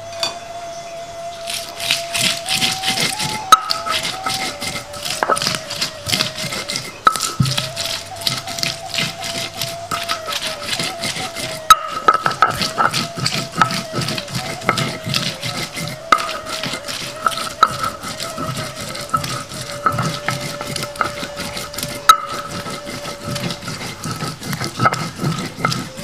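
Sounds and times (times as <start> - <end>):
utensil clinking against pot: 1.8 - 26.0.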